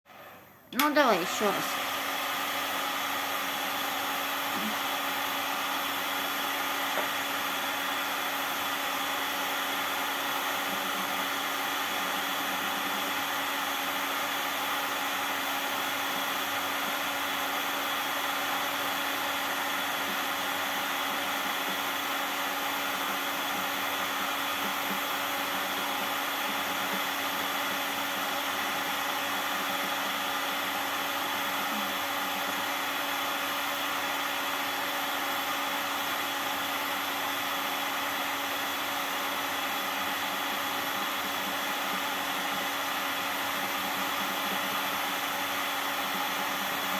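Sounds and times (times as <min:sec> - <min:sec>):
hot-air blower whining: 0:00.1 - 0:46.9.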